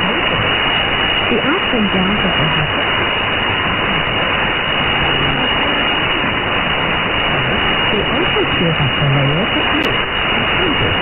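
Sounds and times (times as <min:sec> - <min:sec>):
radio static and hiss: 0:00.0 - 0:11.0.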